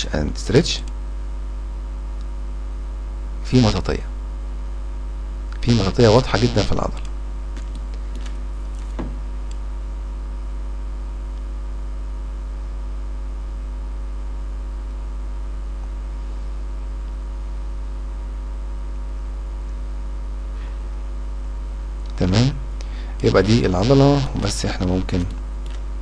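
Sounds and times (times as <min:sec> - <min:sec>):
electrical mains hum and buzz: 0:00.0 - 0:26.0.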